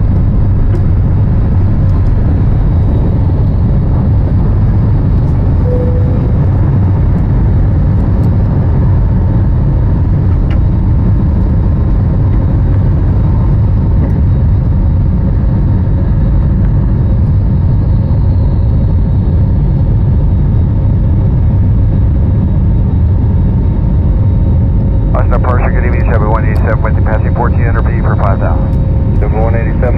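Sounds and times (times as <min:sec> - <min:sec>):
jet engines at high thrust: 0:00.0 - 0:29.9.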